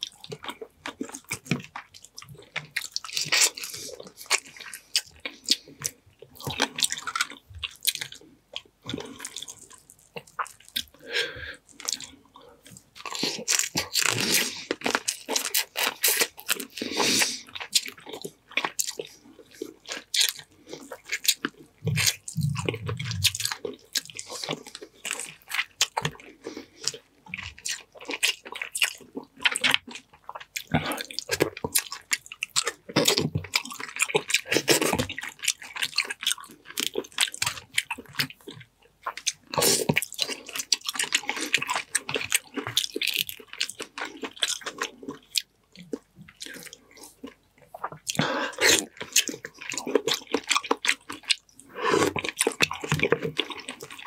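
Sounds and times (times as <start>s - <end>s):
wet chewing and smacking: 0.0s - 54.0s
crab shell crunching: 0.4s - 54.0s.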